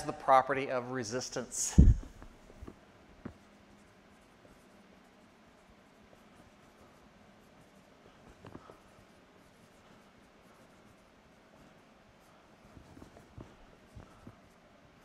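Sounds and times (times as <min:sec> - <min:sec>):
room hiss: 0:00.0 - 0:15.0.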